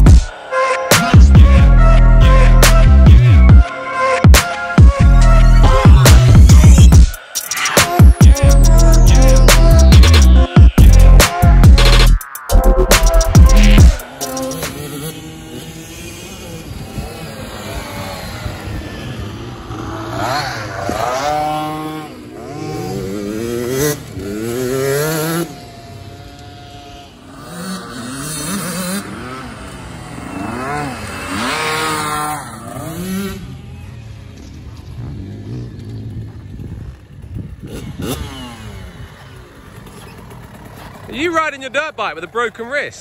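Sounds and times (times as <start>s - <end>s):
dirt bike engine revving: 0.0s - 3.6s, 4.2s - 43.0s.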